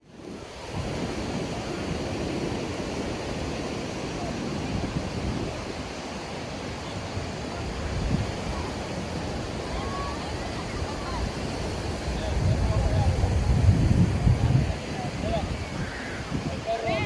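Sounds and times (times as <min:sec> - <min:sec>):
sea waves washing ashore: 0:00.0 - 0:17.0
wind buffeting microphone: 0:00.2 - 0:17.0.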